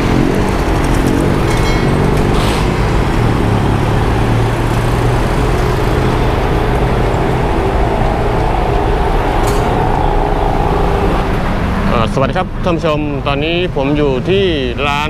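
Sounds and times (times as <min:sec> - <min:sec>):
vehicle engine humming: 0:00.0 - 0:14.8
city street traffic: 0:00.0 - 0:15.0.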